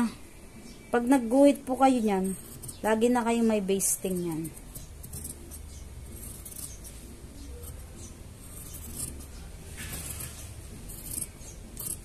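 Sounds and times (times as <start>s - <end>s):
steady low hum: 0.0s - 12.0s
marking tool scraping on paper: 1.7s - 12.0s.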